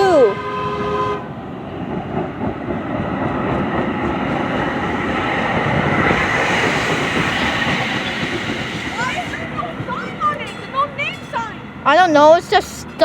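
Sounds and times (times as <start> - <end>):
light rail train passing: 0.0 - 13.0.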